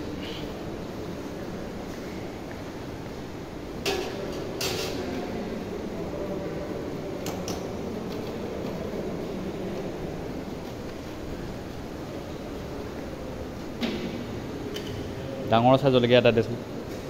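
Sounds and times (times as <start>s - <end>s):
background noise: 0.0s - 17.0s.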